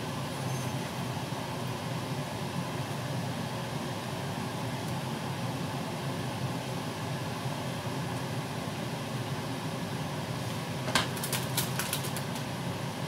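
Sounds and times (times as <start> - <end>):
gas burner low hum: 0.0 - 13.0.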